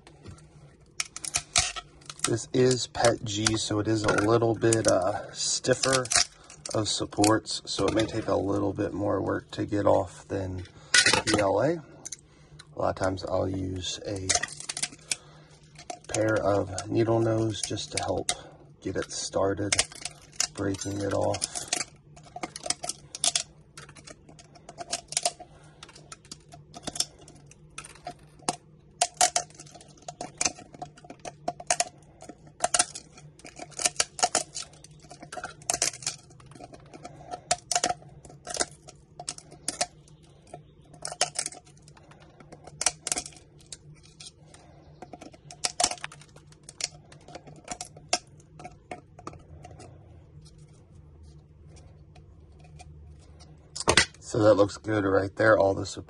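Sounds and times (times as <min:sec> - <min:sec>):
plastic clicks and cracks: 0:00.1 - 0:08.9, 0:14.1 - 0:50.8, 0:51.7 - 0:54.4.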